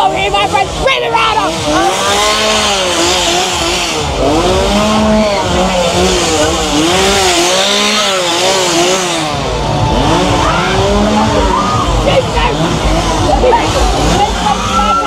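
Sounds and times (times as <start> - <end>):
chainsaw revving: 0.0 - 15.0.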